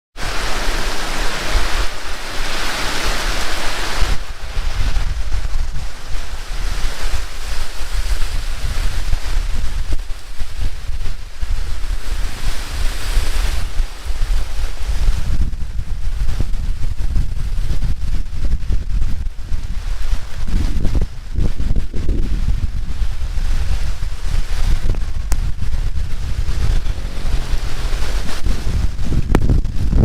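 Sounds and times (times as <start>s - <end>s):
heavy rain pouring: 0.2s - 30.0s
wind buffeting microphone: 0.2s - 30.0s.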